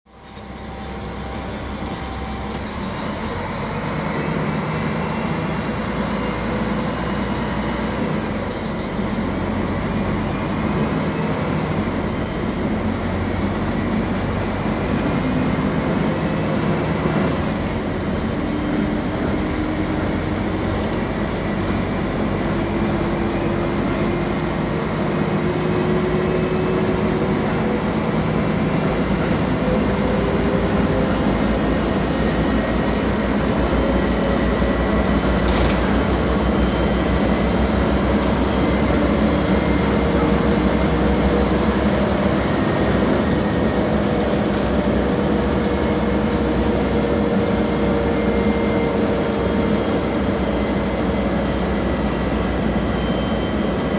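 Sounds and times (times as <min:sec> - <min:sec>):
bus diesel engine running: 0:00.1 - 0:53.9.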